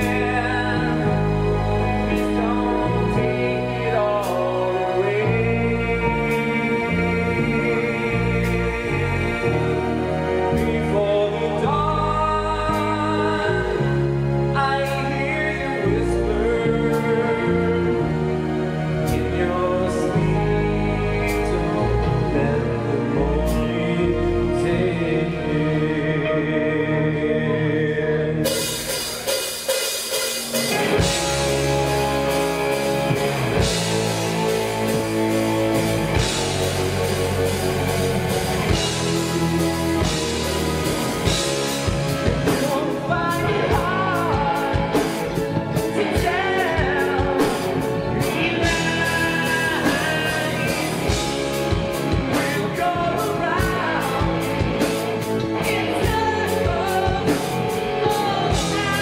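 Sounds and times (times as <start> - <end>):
male lead vocal singing: 0.0 - 29.4, 30.7 - 59.0
live rock band playing: 0.0 - 59.0.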